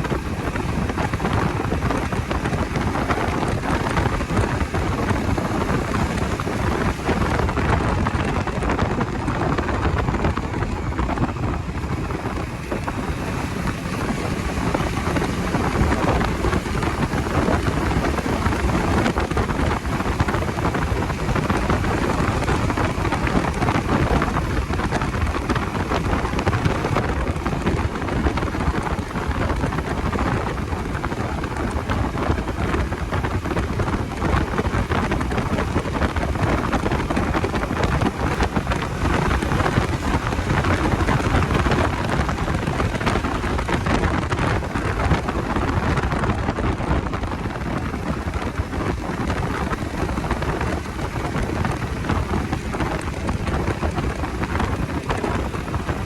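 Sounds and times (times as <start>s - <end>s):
motorcycle engine running: 0.0s - 56.0s
road noise: 0.0s - 56.0s
wind rushing: 0.0s - 56.0s.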